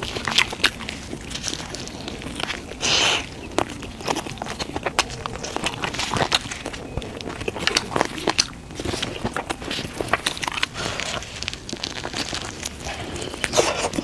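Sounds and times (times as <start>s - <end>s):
person biting and chewing: 0.0s - 14.0s.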